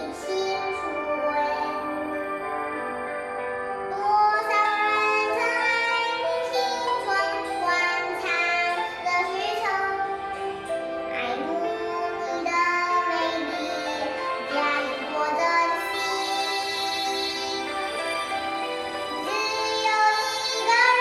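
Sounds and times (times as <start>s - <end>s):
girl singing: 0.0s - 18.1s, 19.0s - 21.0s
musical accompaniment: 0.0s - 21.0s.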